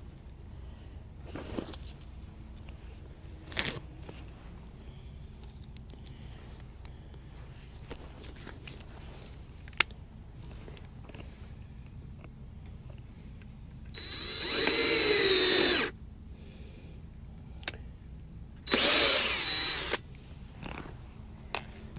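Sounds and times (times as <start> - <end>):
low steady rumble: 0.0 - 21.9.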